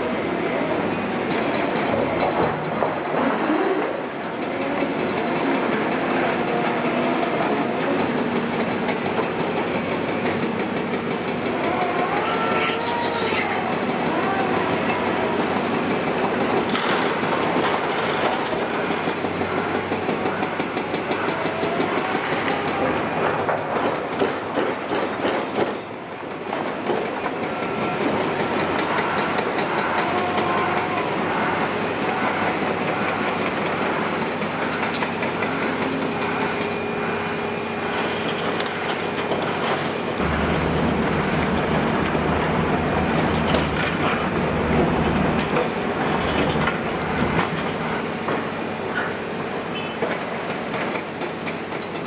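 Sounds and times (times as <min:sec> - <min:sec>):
excavator diesel engine: 0:00.0 - 0:52.0
metallic clatter of tracks and rubble: 0:00.4 - 0:52.0.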